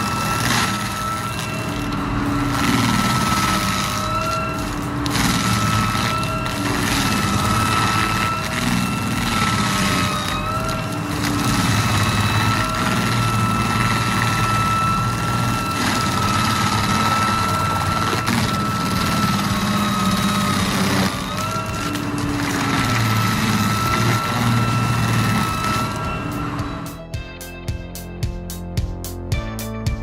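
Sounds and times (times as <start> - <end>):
heavy machine engine running: 0.0 - 27.2.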